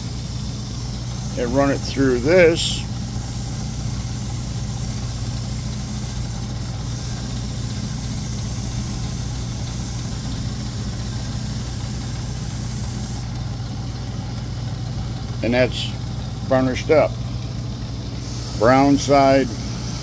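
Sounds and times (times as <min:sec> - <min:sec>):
finishing machine humming: 0:00.0 - 0:20.0.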